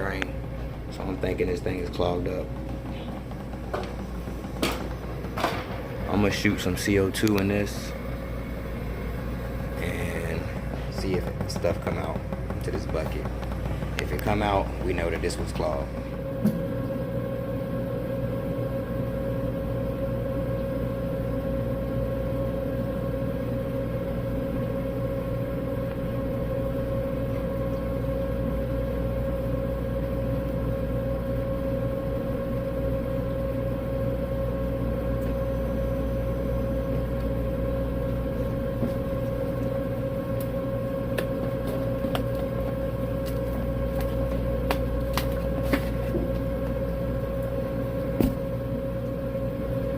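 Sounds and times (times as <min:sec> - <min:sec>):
hvac equipment humming: 0:00.0 - 0:49.9.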